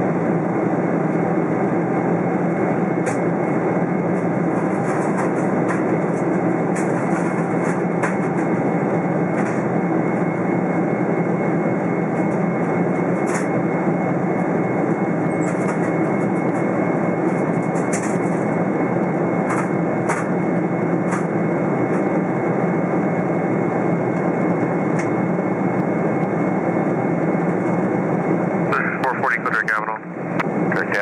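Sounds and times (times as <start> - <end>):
jet engines and airflow in cabin: 0.0 - 31.0.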